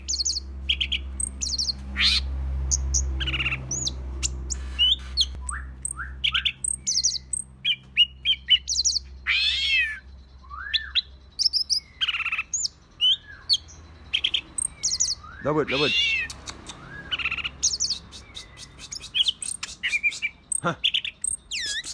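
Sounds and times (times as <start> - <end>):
bird singing chirps and trills: 0.0 - 21.9.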